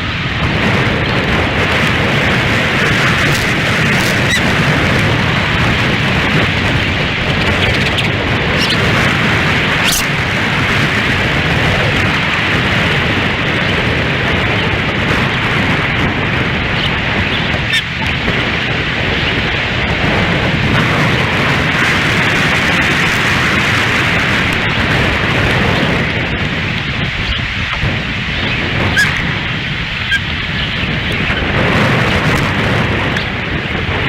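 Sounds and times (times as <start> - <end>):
strong wind buffeting microphone: 0.0 - 34.0.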